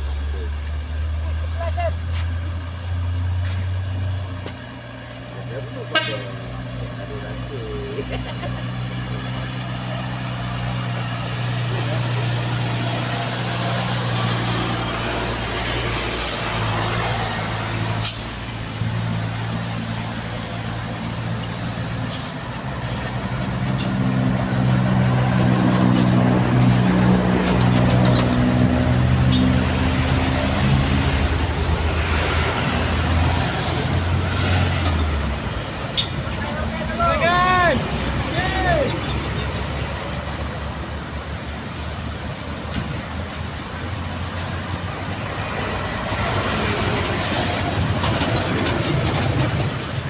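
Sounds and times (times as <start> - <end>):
road and wind noise: 0.0 - 50.0
truck diesel engine climbing: 0.0 - 50.0.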